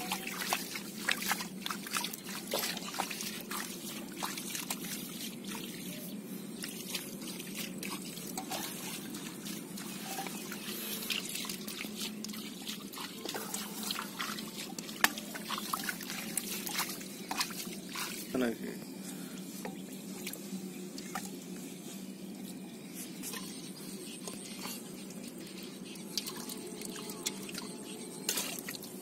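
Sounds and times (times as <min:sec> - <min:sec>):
water trickling and dripping: 0:00.0 - 0:18.6, 0:19.5 - 0:21.7, 0:23.2 - 0:29.0
mud squelching: 0:00.0 - 0:21.9, 0:23.1 - 0:29.0.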